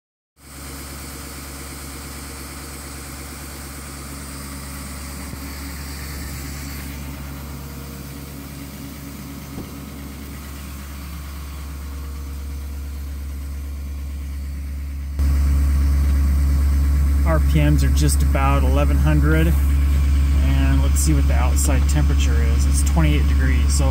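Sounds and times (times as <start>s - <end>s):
diesel truck engine idling: 0.4s - 23.9s.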